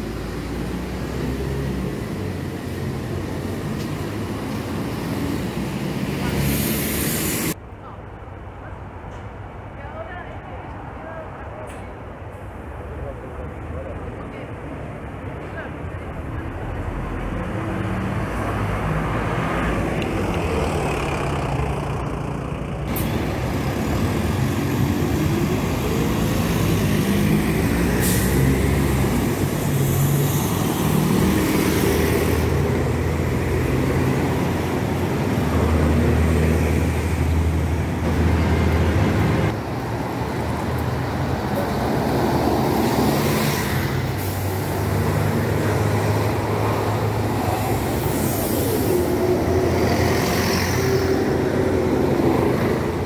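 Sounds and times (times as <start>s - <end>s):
bus engines pulling away: 0.0s - 7.6s, 12.3s - 53.0s
road traffic noise: 0.0s - 53.0s.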